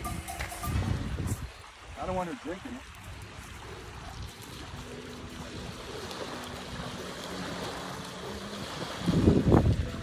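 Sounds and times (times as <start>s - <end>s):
small waves lapping: 0.0s - 10.0s
wind: 0.0s - 10.0s.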